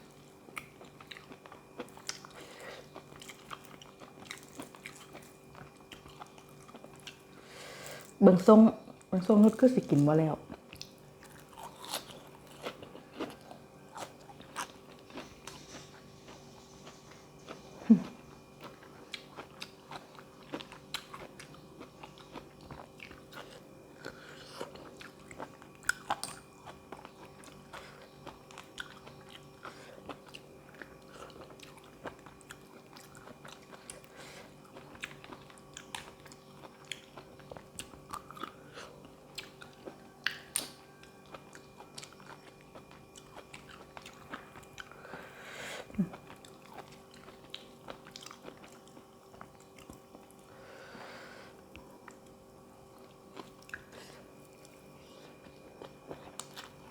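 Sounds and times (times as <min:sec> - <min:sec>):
chewing and crunching food: 0:00.0 - 0:56.9.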